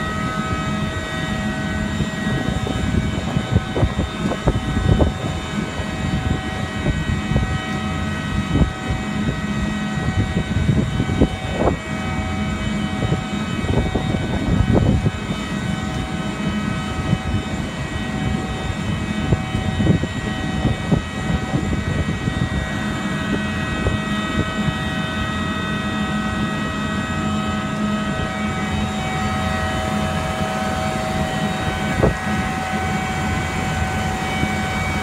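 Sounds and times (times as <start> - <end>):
diesel locomotive drone: 0.0 - 35.0
wind buffeting microphone: 0.0 - 35.0.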